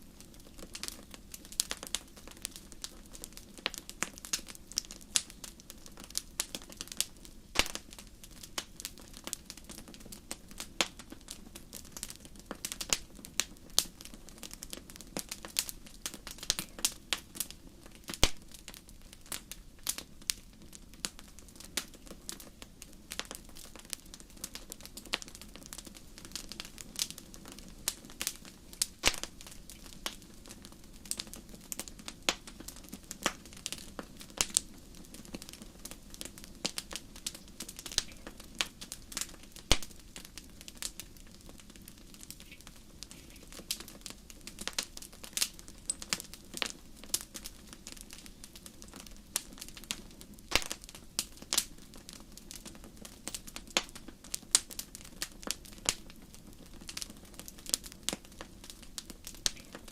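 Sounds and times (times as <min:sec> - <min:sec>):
low hiss of flames: 0:00.0 - 0:59.9
wood fire crackling: 0:00.0 - 0:59.9.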